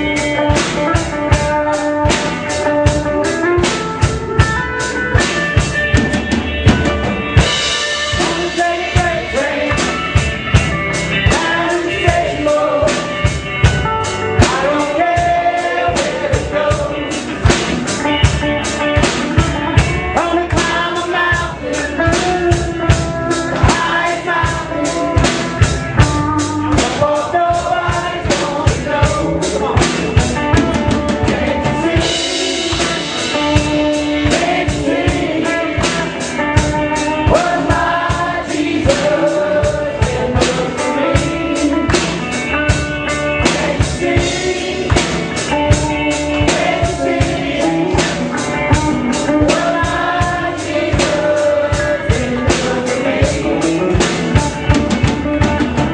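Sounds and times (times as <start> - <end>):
rock band playing: 0.0 - 55.9.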